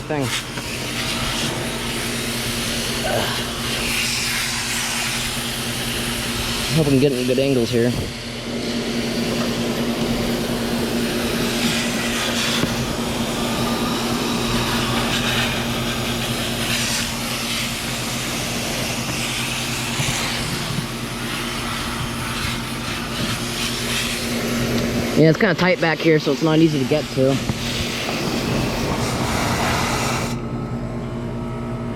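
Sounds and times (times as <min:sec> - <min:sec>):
hose spraying water on metal fins: 0:00.0 - 0:30.4
steady low hum: 0:00.0 - 0:31.9.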